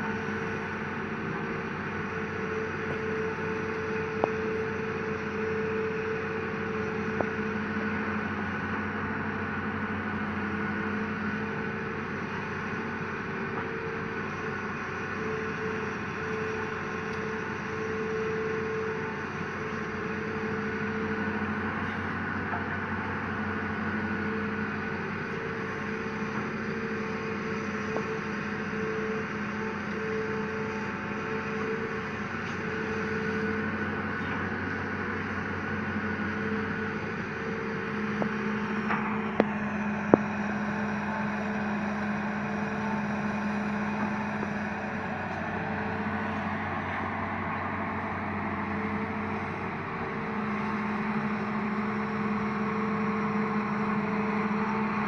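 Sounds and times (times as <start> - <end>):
excavator diesel engine drone: 0.0 - 55.0.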